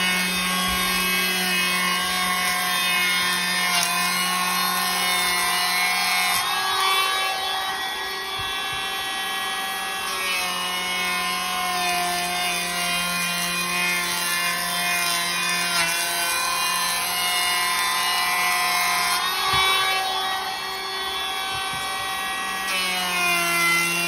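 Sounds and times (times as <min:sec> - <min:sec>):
electric planer shaving wood: 0:00.0 - 0:24.0.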